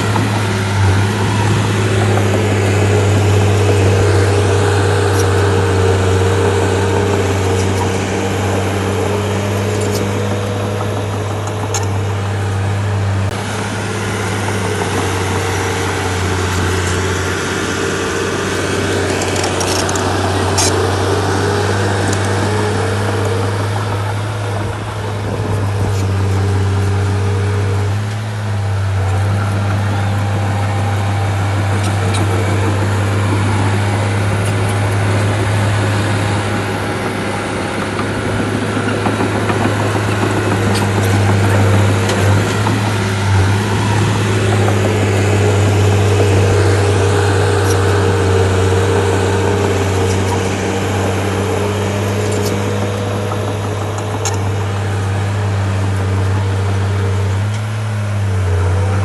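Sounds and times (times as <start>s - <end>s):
bulldozer diesel engine humming: 0.0s - 59.0s.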